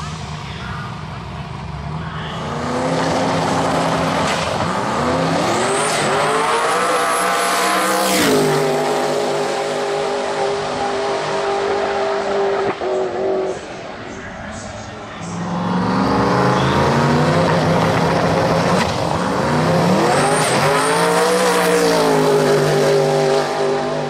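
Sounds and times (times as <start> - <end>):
drag car engine revving: 0.0 - 24.0.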